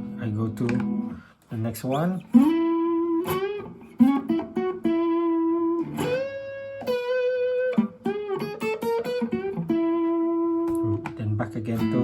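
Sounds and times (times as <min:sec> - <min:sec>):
overdriven electric guitar lead: 0:00.0 - 0:01.3, 0:02.3 - 0:12.0.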